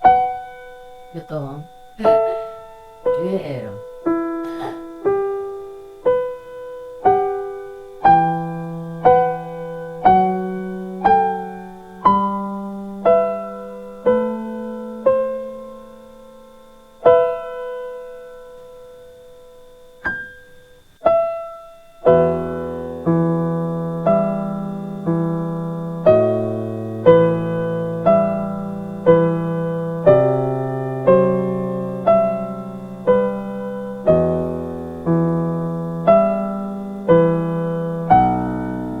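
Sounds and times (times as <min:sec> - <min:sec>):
slow piano music: 0:00.0 - 0:39.0.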